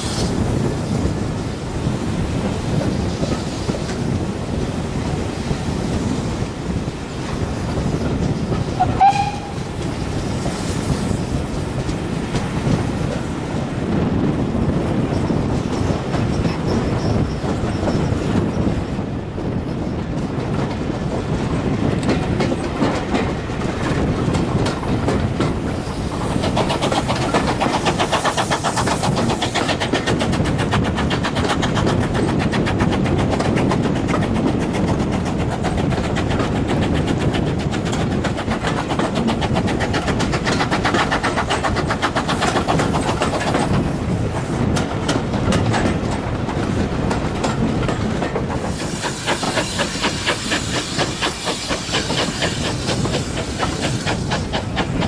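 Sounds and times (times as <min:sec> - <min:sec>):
train wheels clattering on track: 0:00.0 - 0:55.0.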